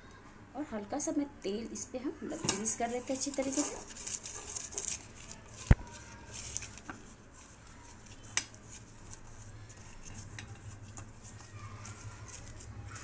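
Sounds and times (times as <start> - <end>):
paper crinkling in metal tin: 2.4 - 13.0.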